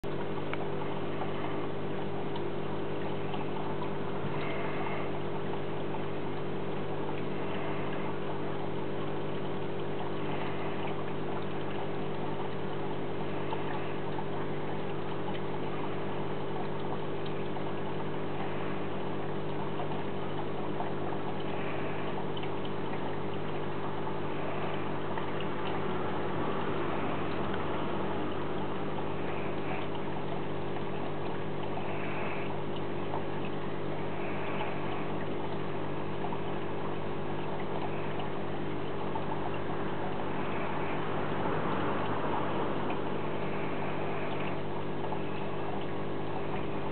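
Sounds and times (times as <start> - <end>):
aquarium pump hum: 0.0 - 46.9
water trickling and bubbling: 0.0 - 46.9.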